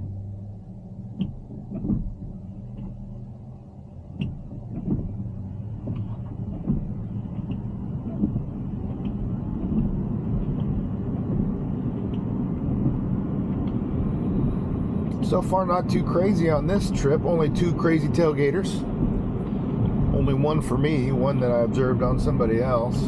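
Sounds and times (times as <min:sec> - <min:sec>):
road and tyre noise in car cabin: 0:00.0 - 0:23.0.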